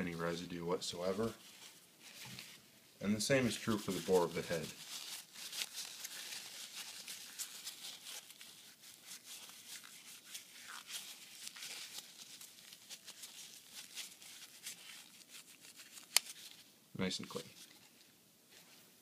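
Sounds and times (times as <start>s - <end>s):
paper towel rustling scrape: 0.0s - 2.6s, 3.2s - 16.6s.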